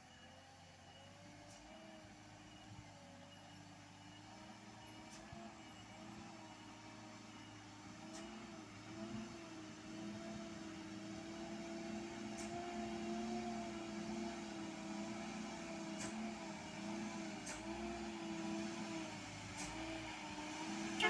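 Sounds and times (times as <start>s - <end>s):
truck engine humming: 0.0s - 21.0s.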